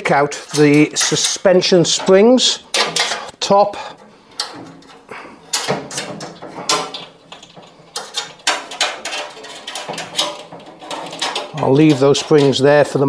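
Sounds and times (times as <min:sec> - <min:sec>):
metal springs clicking and rattling: 0:00.0 - 0:13.0.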